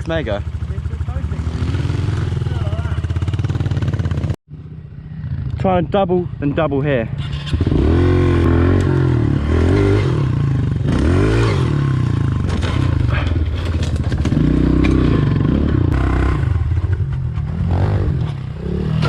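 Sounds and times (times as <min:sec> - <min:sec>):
dirt bike engine revving: 0:00.0 - 0:04.4, 0:07.1 - 0:19.0.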